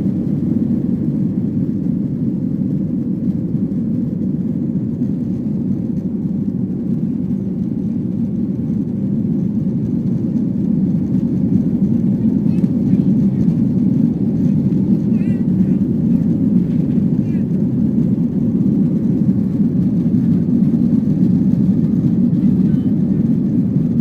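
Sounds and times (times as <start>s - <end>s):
airliner cabin engine drone: 0.0s - 24.0s.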